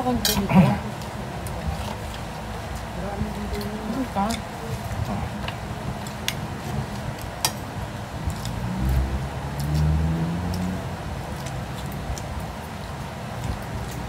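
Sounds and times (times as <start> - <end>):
background noise: 0.0 - 14.0.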